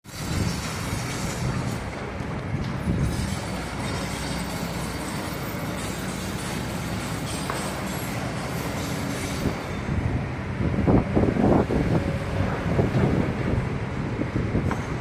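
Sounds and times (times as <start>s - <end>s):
excavator engine rumbling: 0.1s - 15.0s.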